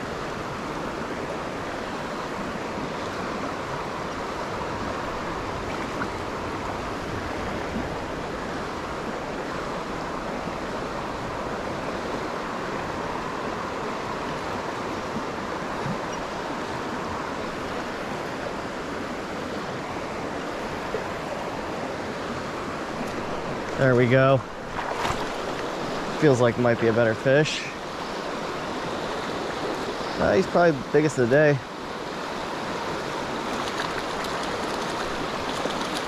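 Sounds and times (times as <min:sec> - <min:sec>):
stream water flowing: 0:00.0 - 0:36.0.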